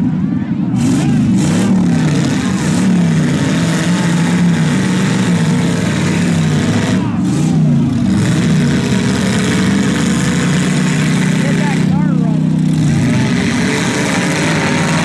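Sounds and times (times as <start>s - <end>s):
car engines revving rough: 0.0s - 15.0s.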